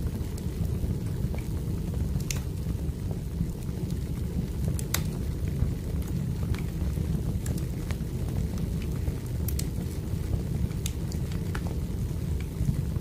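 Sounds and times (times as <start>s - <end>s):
fire crackling and popping: 0.0s - 13.0s
wood fire rumbling: 0.0s - 13.0s.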